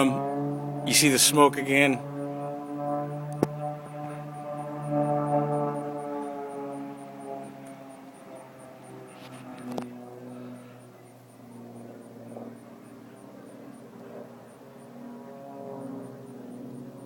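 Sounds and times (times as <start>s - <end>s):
distant propeller plane droning: 0.0s - 17.0s.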